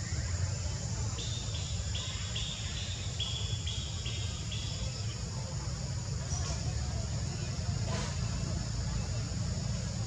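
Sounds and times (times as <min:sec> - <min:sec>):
high insect hiss: 0:00.0 - 0:10.0.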